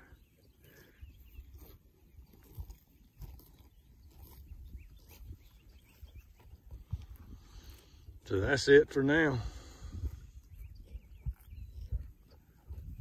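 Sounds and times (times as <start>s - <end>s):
cattle munching grass: 0.0s - 13.0s.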